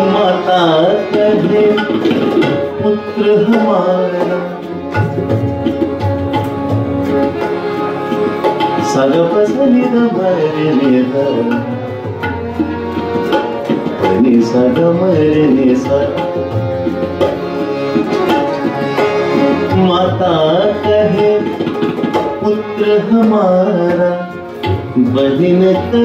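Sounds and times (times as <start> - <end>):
harmonium: 0.0 - 26.0
tabla: 0.0 - 26.0
violin melody: 0.0 - 26.0.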